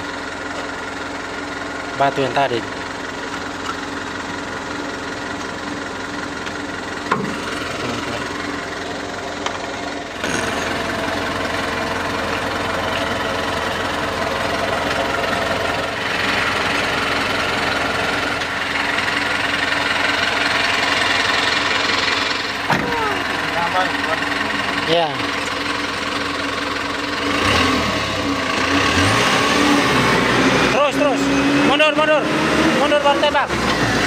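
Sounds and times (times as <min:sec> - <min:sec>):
diesel truck engine idling: 0:00.0 - 0:34.0.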